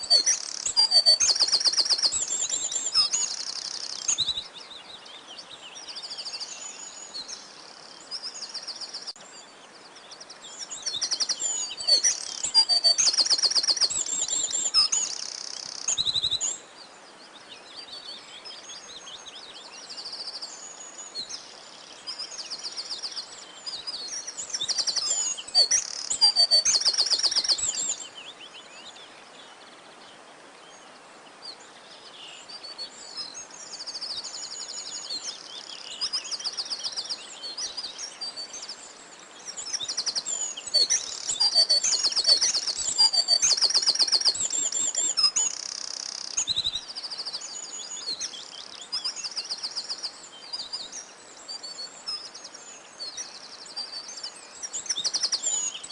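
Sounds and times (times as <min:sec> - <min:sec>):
faint steady hiss: 0:00.0 - 0:55.9
songbirds singing: 0:00.0 - 0:55.9.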